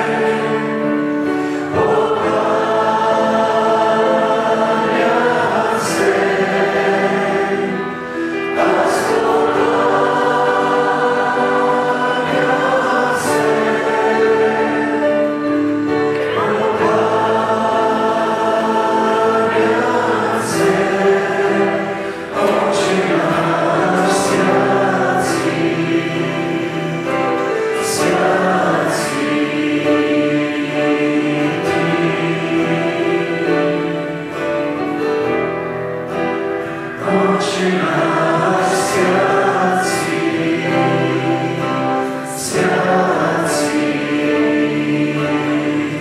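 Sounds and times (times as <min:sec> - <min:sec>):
acoustic guitars: 0:00.0 - 0:46.0
group singing: 0:00.0 - 0:46.0
keyboard: 0:00.0 - 0:46.0.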